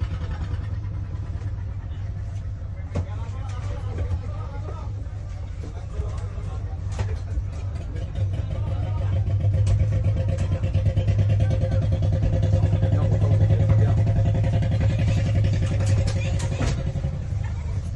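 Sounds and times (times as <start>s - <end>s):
boat engine running: 0.0s - 17.9s.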